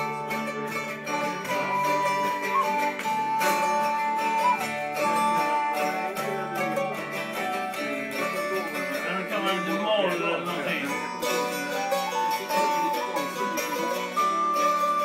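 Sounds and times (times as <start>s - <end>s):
lap slide guitar: 0.0s - 15.0s
recorder melody: 0.0s - 15.0s
ukuleles strumming: 0.0s - 15.0s.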